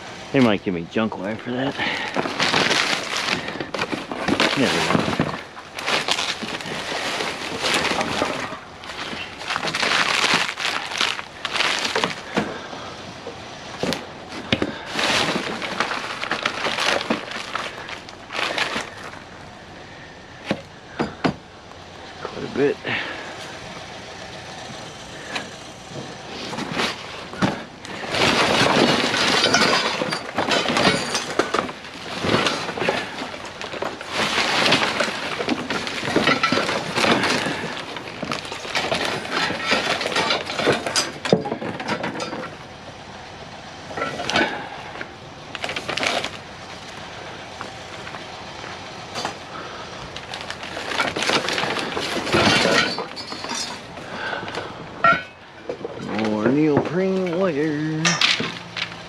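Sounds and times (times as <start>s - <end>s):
scrap wire rustling and clattering: 0.0s - 19.4s, 22.2s - 42.8s, 43.9s - 59.0s.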